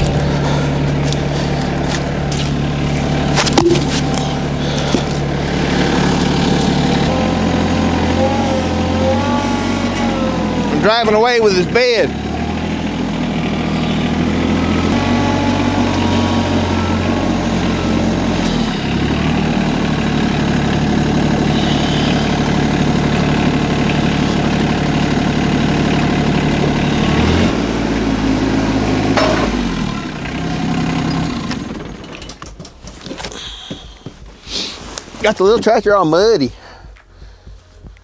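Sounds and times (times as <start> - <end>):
small tractor engine running: 0.0 - 38.0.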